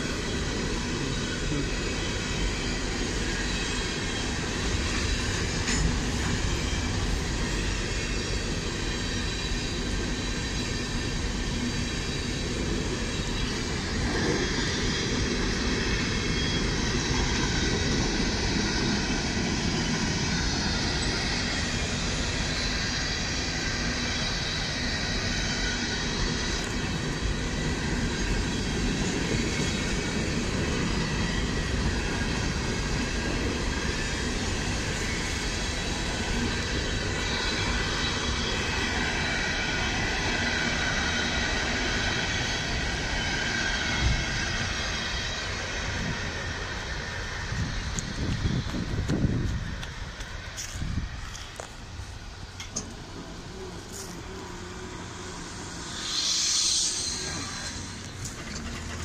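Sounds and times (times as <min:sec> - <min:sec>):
freight train wheels clattering: 0:00.0 - 0:54.3, 0:55.5 - 0:59.0.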